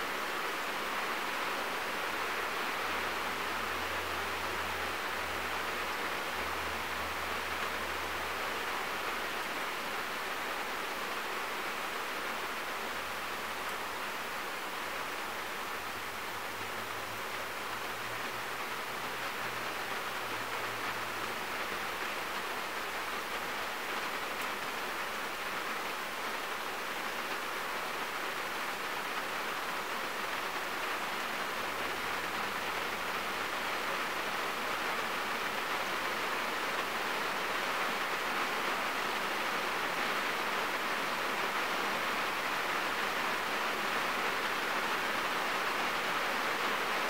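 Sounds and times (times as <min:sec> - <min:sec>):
rain on car roof: 0:00.0 - 0:47.0.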